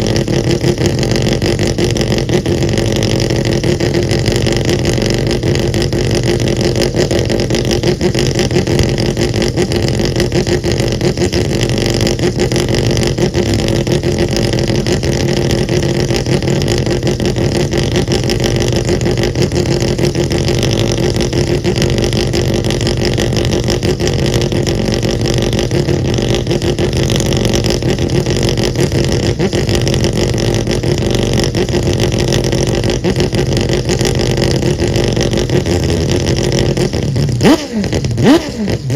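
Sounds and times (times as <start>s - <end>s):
rotary engine running loud: 0.0s - 38.9s.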